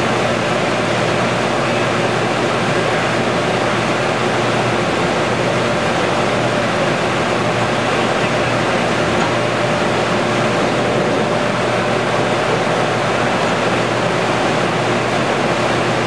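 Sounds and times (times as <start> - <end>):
loud steady machine noise: 0.0 - 16.0.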